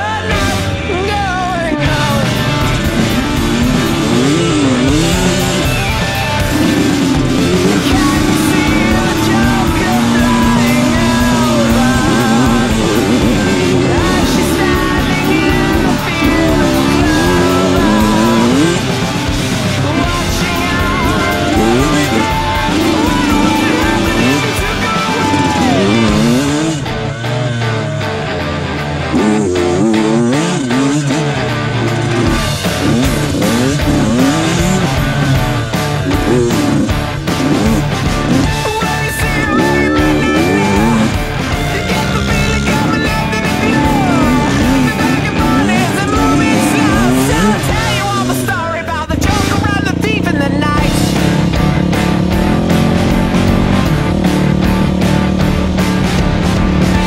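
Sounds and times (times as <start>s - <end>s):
person singing: 0.0s - 55.1s
rock music with guitar: 0.0s - 57.0s.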